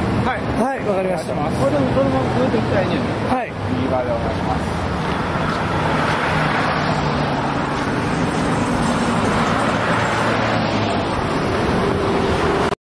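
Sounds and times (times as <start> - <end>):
cars passing on road: 0.0 - 12.8.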